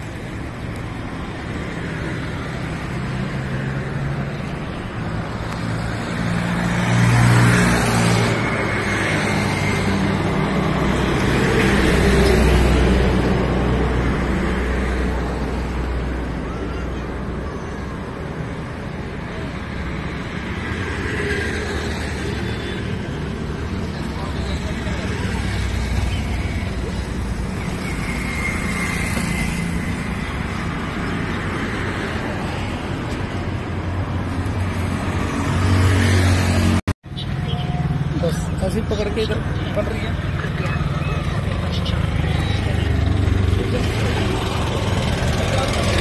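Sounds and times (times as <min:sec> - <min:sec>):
road traffic: 0:00.0 - 0:46.0
vehicles passing: 0:00.0 - 0:46.0.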